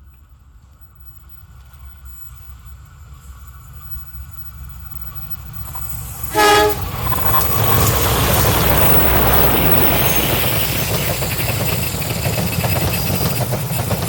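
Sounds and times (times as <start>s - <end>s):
train rumbling: 0.0s - 14.0s
train hiss: 0.2s - 14.0s.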